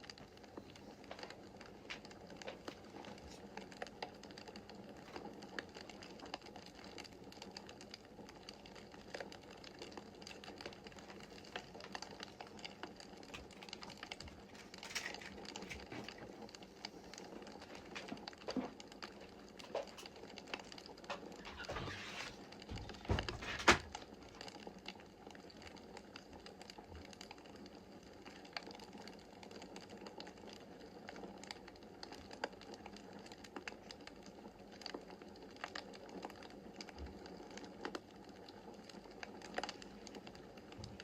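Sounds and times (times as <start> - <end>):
fire crackles and pops: 0.0 - 41.0
fire snapping: 0.0 - 41.0
wood fire hissing: 0.0 - 41.0.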